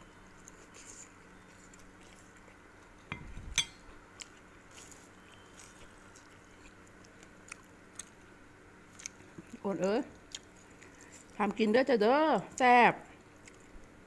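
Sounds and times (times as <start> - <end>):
quiet steady hum: 0.0 - 14.0.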